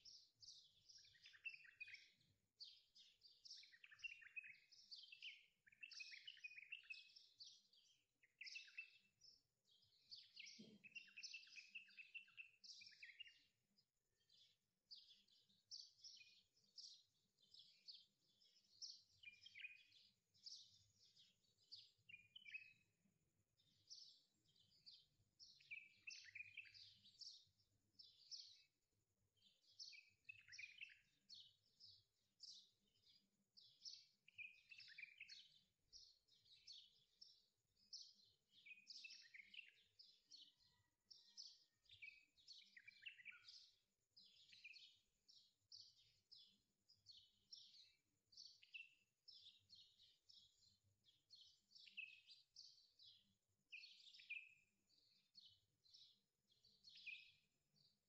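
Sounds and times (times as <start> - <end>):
faint songbirds chirping: 0.0 - 58.0.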